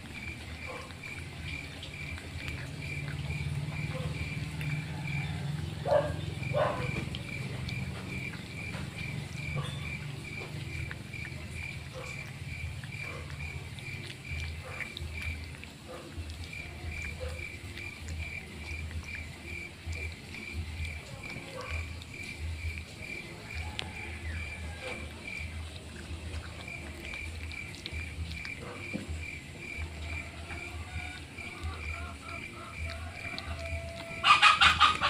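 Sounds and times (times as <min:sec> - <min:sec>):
insect chirping rhythmically: 0:00.0 - 0:35.0
puppies eating from metal plate: 0:00.0 - 0:35.0.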